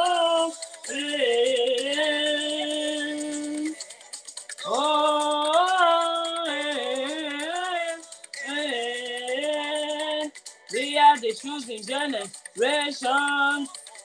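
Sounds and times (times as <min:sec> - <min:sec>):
backing music: 0:00.0 - 0:14.0
woman singing: 0:00.0 - 0:14.0.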